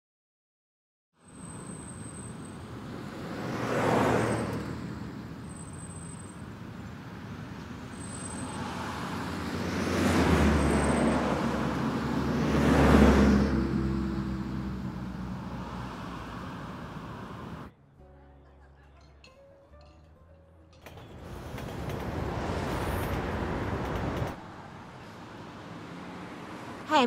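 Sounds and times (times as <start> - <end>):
vehicles driving past: 1.2 - 27.0.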